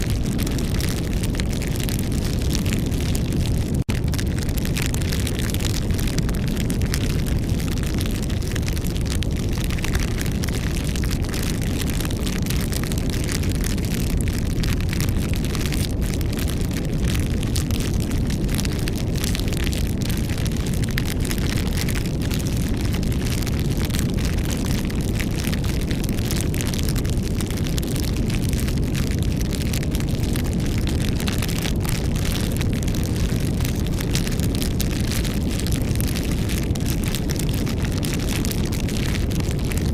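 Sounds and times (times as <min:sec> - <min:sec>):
campfire crackling and popping: 0:00.0 - 0:39.9
fire low rumble: 0:00.0 - 0:39.9.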